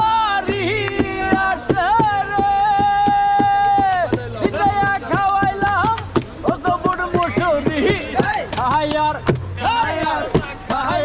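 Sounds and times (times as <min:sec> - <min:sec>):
man singing: 0:00.0 - 0:11.0
hand drumming on plastic tub: 0:00.4 - 0:09.5.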